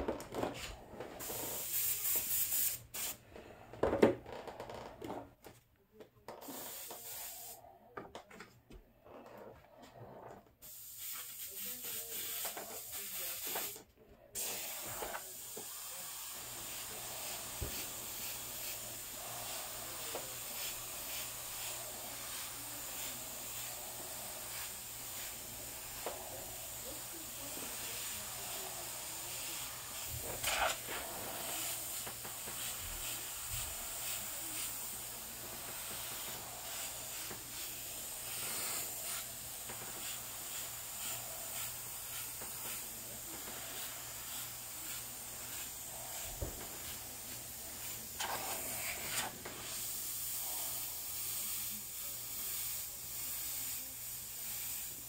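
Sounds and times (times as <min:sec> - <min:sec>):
airbrush hissing: 0:01.2 - 0:03.2, 0:06.4 - 0:07.7, 0:10.6 - 0:13.8, 0:14.4 - 0:55.0.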